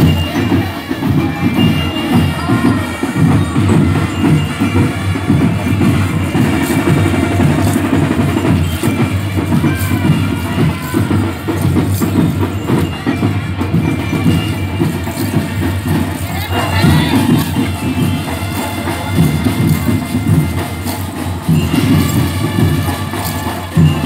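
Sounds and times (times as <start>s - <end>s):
marching band playing: 0.0s - 24.0s
percussion steady beat: 0.0s - 24.0s.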